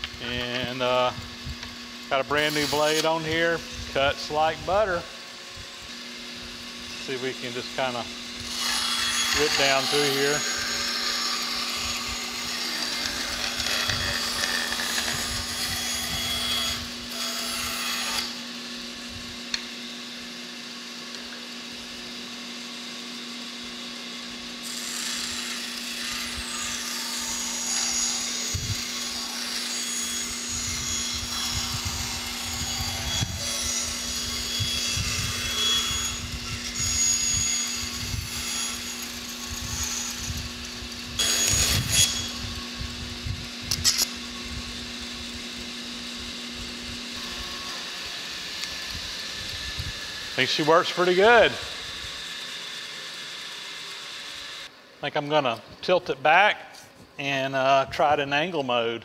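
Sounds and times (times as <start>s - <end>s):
band saw running: 0.0s - 54.8s
saw cutting wood: 0.0s - 55.6s.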